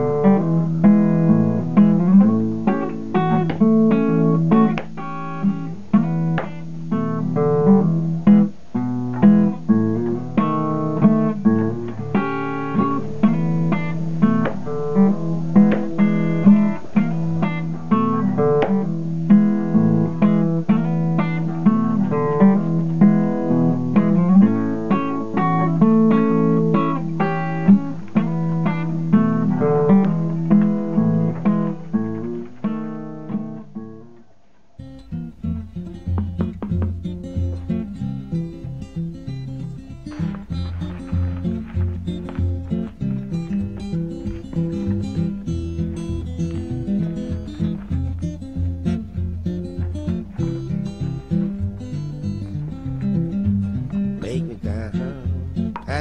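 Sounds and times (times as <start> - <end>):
acoustic guitar blues: 0.0 - 56.0.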